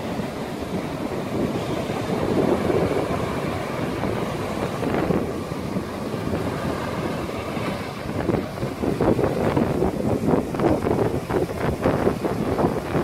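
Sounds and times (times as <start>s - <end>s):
gusting wind buffeting microphone: 0.0s - 13.0s
surf washing onto shore: 0.0s - 13.0s.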